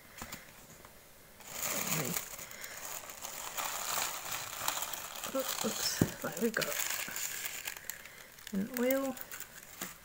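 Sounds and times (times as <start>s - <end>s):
packing paper rustling: 1.4s - 10.0s.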